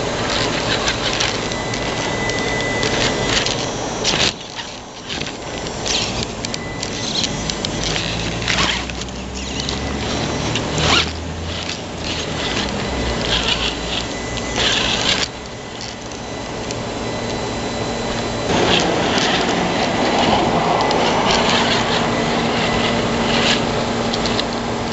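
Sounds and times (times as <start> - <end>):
electric motor whine: 0.0 - 24.9
tyres scrabbling on stone: 0.0 - 24.9.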